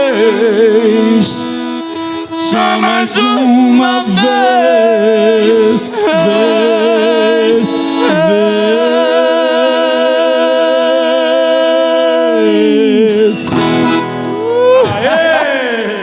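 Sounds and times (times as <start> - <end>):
singers holding long vibrato note: 0.0 - 16.0.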